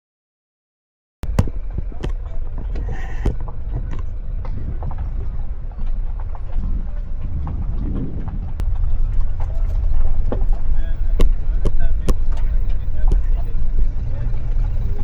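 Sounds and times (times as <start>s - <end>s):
car rumbling on rough road: 1.2s - 15.0s
small knocks and rattles: 1.2s - 15.0s.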